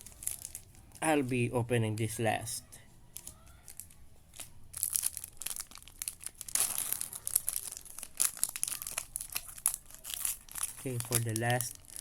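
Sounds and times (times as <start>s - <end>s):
plastic wrapper crinkling: 0.0s - 1.3s, 3.1s - 12.0s.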